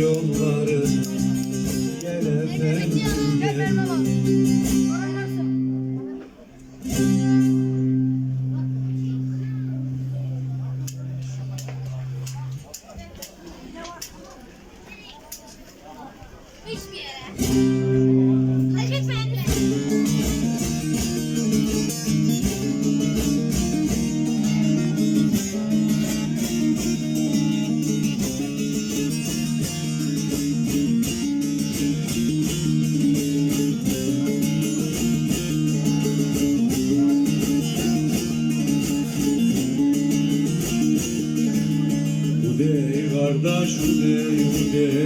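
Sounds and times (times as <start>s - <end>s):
plucked lute with drone strings: 0.0s - 12.8s, 17.4s - 45.0s.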